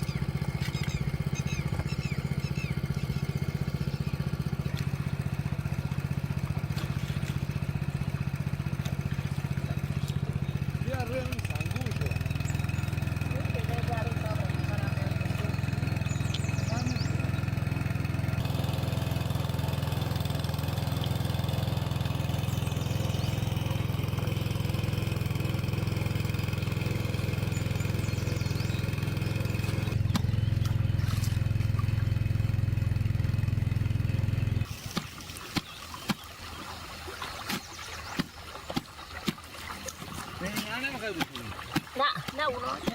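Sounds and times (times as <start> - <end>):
engine idling: 0.0 - 36.2.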